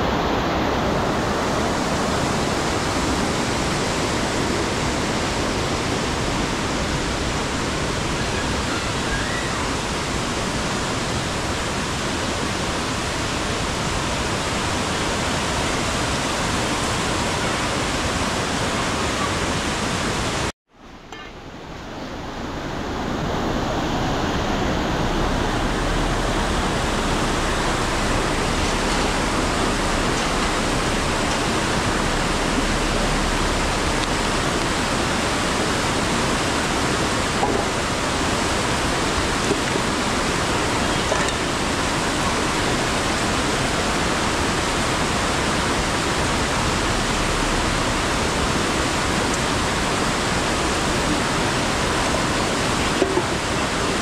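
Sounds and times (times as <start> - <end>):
mountain stream rushing over rocks: 0.0 - 54.0.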